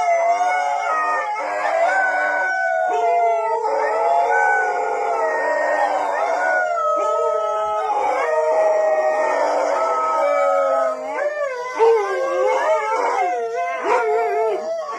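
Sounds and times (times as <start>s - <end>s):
dogs howling together: 0.0s - 14.9s.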